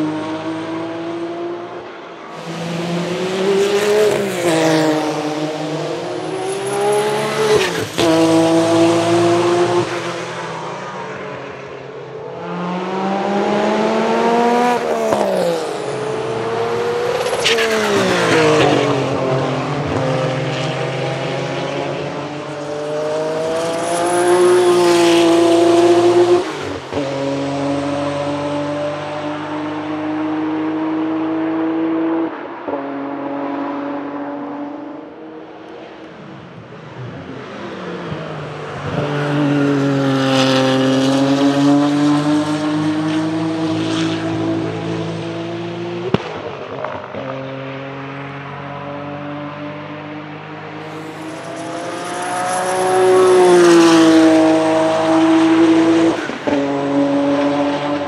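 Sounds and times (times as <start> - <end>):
racing engine revving: 0.0 - 10.4, 12.4 - 34.8, 37.6 - 58.0.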